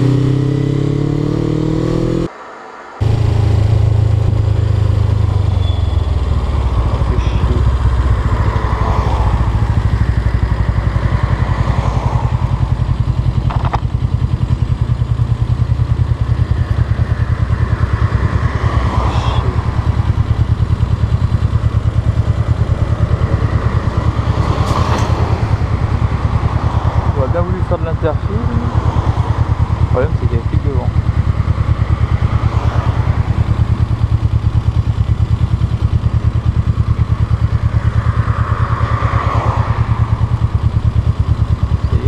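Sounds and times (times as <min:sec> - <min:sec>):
motorcycle engine running: 0:00.0 - 0:02.3, 0:03.0 - 0:42.0.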